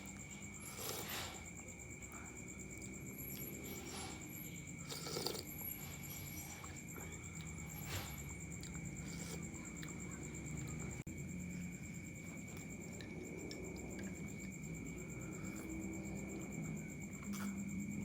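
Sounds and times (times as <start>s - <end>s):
chewing noodles: 0.0s - 18.0s.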